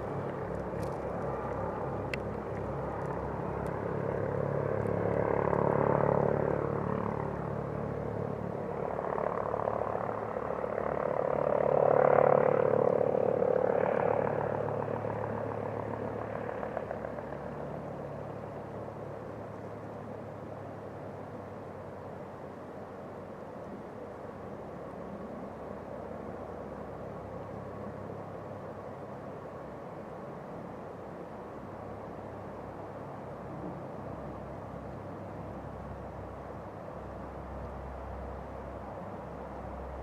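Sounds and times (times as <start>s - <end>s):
helicopter flying over: 0.0s - 40.0s.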